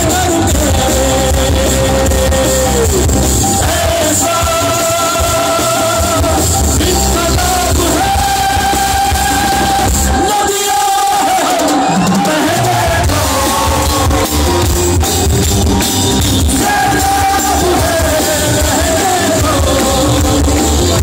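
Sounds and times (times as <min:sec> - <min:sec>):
bass: 0:00.0 - 0:10.4, 0:12.2 - 0:21.0
electric guitar: 0:00.0 - 0:10.5, 0:11.3 - 0:21.0
drum kit: 0:00.0 - 0:21.0
singer holding long notes: 0:00.0 - 0:21.0.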